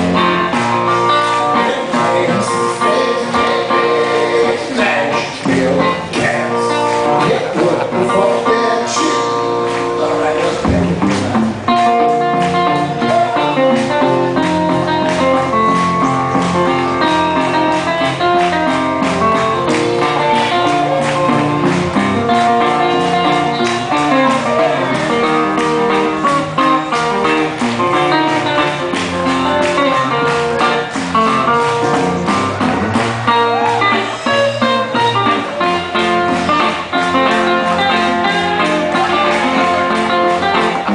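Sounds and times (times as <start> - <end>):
amplified guitar picking runs: 0.0 - 40.9.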